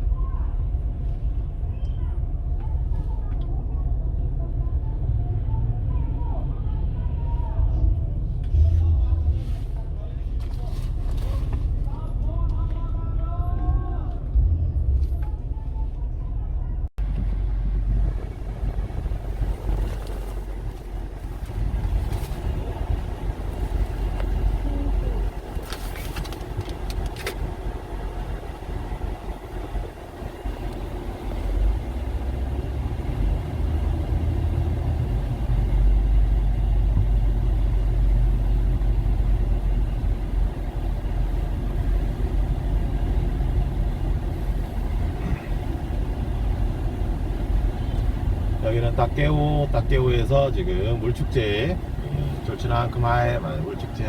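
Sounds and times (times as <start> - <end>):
rumble of road vehicles: 0.0 - 54.0.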